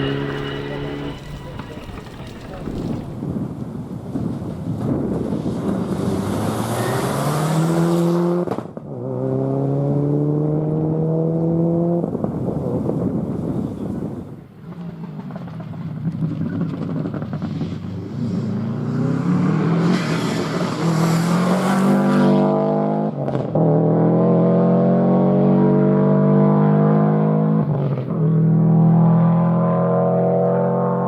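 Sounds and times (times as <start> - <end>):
rally car accelerating: 0.0 - 3.4, 4.2 - 31.0.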